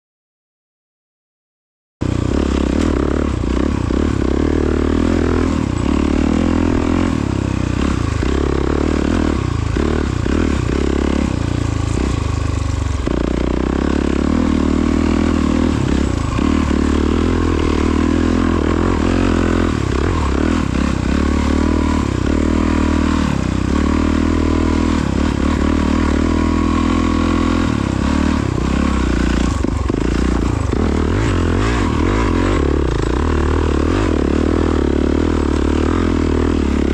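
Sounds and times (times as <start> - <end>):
dirt bike engine revving: 2.0 - 36.9.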